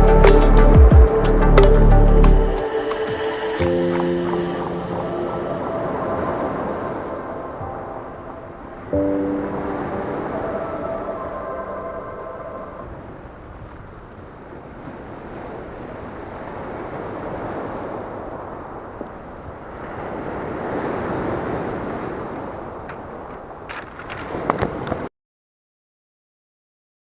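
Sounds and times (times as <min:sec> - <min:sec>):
sea waves washing onto shore: 0:00.0 - 0:25.1
wind noise on microphone: 0:00.0 - 0:25.1.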